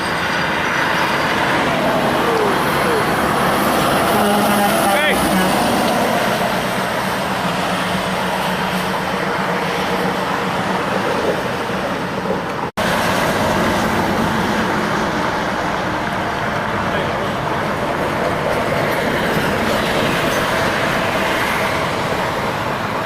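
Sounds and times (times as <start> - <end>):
heavy road traffic: 0.0 - 23.0.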